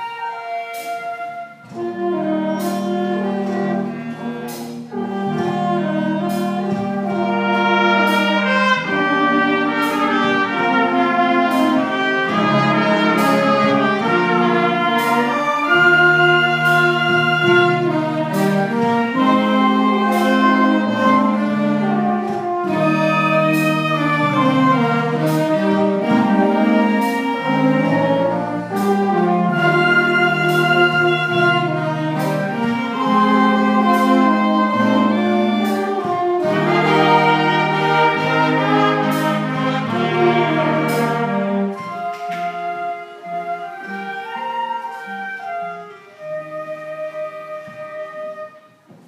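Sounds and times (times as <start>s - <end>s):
concert band playing: 0.0s - 49.0s.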